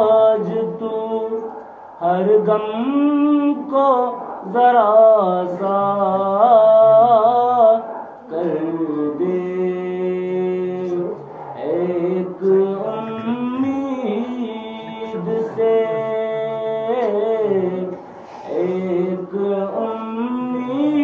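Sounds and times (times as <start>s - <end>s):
man chanting a devotional song: 0.0s - 21.0s.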